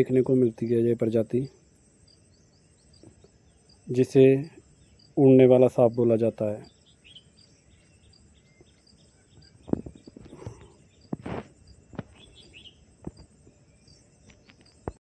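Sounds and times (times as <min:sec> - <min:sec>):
bird-like chirps: 0:00.0 - 0:15.0
insects chirping: 0:00.0 - 0:15.0.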